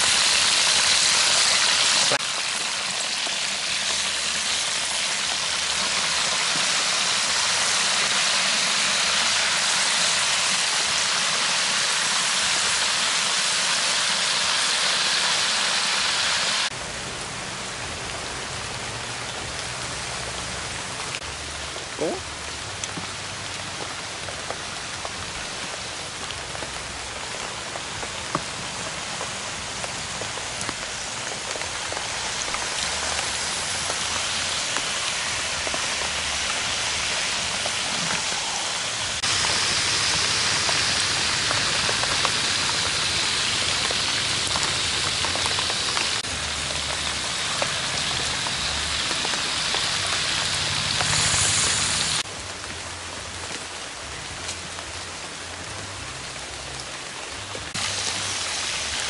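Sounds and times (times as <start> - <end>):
hot oil sizzling: 0.0 - 54.7, 56.0 - 59.0.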